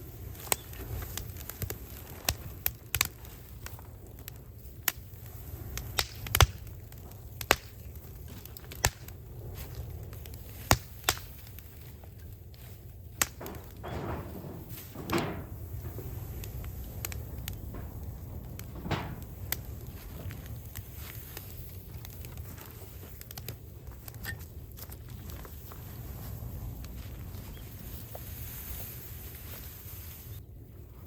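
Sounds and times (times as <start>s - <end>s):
rustling: 0.0s - 30.4s
low steady rumble: 0.0s - 31.0s
wood fire crackling and popping: 0.0s - 31.0s.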